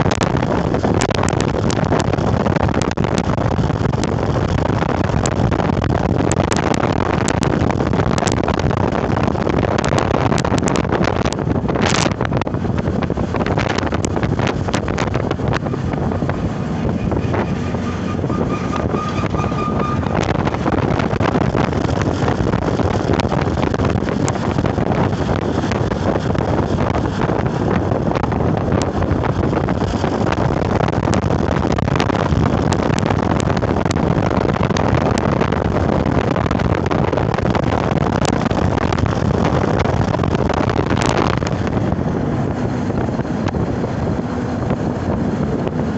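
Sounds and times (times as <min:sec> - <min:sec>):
vehicle travel rushing noise: 0:00.0 - 0:45.9
wind buffeting microphone: 0:00.0 - 0:45.9.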